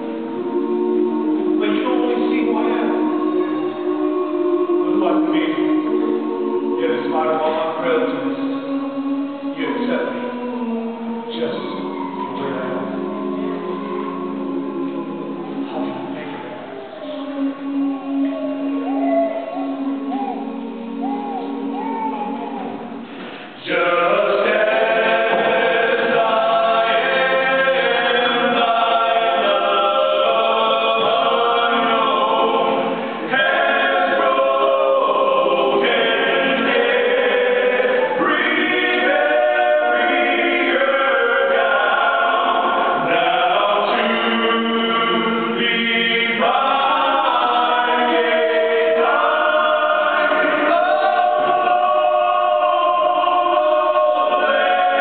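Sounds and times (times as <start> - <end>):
men singing a cappella: 0.0 - 16.2, 23.5 - 55.0.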